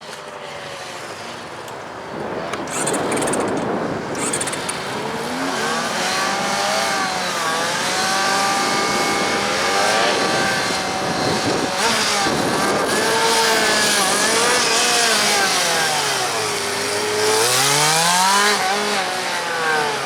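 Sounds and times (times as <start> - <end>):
motorcycle engine revving: 0.1 - 20.0.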